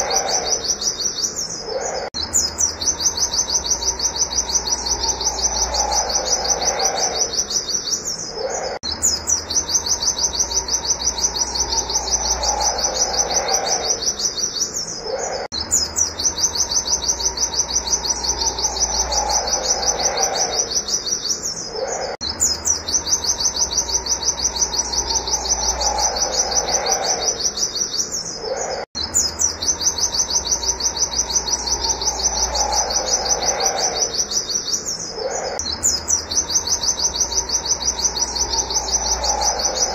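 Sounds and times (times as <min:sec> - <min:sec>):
bird singing high wit notes: 0:00.0 - 0:39.9.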